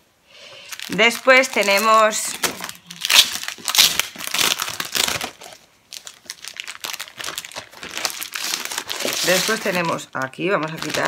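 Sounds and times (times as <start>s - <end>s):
cellophane crinkling: 0.5s - 11.0s.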